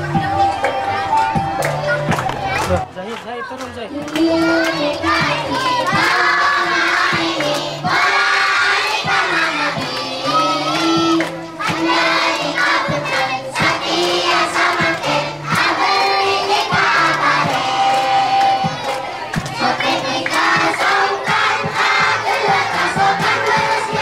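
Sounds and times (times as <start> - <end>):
children chanting and singing: 0.0 - 24.0
children shouting: 4.3 - 24.0.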